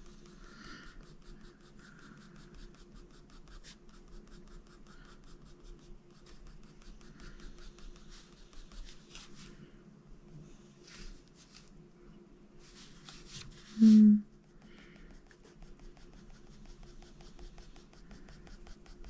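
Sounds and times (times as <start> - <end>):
coloured pencil scratching on paper: 0.0 - 9.5, 12.6 - 19.0.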